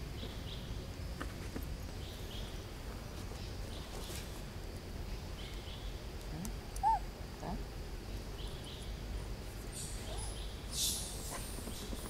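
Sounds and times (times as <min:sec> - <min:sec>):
noisy rustle: 0:00.0 - 0:12.0.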